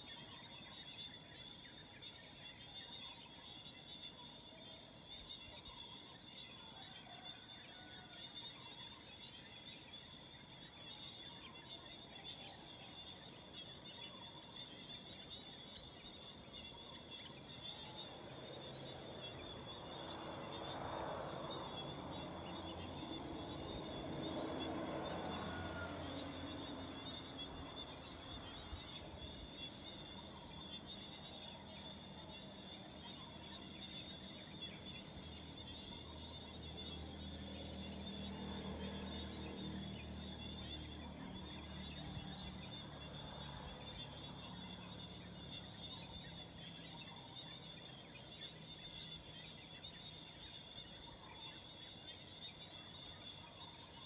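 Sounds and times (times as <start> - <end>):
insect trill: 0.0 - 54.0.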